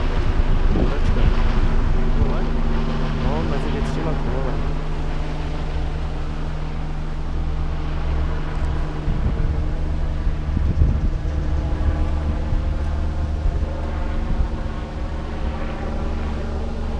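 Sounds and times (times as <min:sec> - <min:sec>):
distant helicopter flying: 0:00.0 - 0:16.9
wind buffeting microphone: 0:00.0 - 0:16.9.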